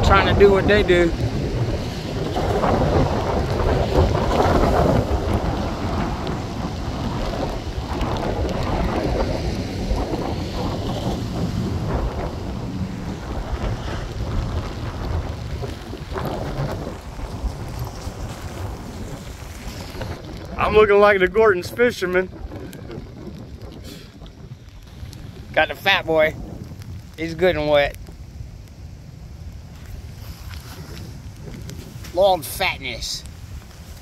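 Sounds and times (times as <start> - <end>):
gusty wind buffeting microphone: 0.0 - 34.0
rain falling: 0.0 - 34.0.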